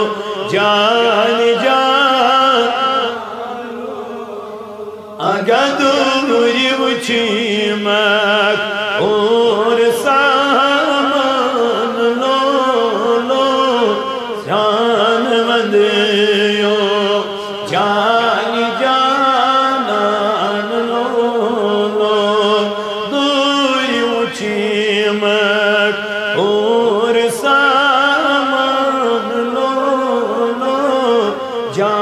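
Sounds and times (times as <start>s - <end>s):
man singing through microphone: 0.0s - 32.0s.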